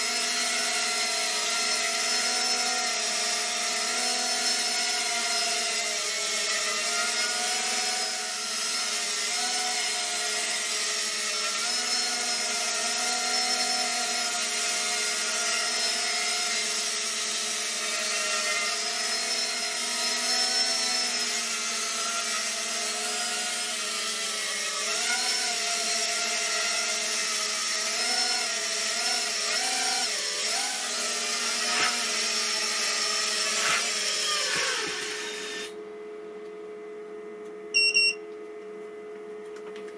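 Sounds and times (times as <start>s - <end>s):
quadcopter motors whining: 0.0s - 35.8s.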